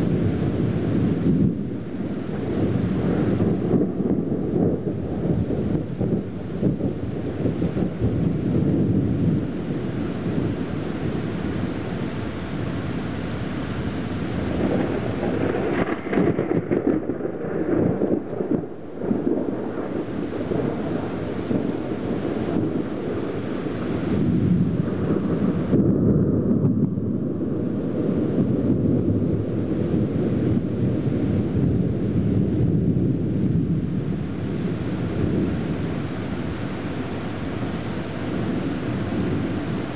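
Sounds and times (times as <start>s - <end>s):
heavy rain hiss: 0.0s - 25.9s, 26.9s - 39.9s
rolling thunder: 0.0s - 39.9s.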